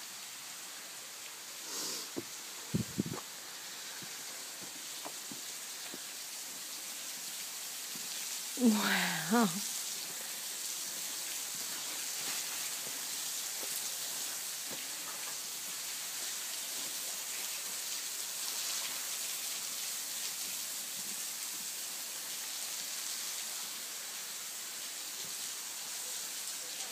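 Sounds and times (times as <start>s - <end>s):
waterfall splashing onto rocks: 0.0s - 26.9s.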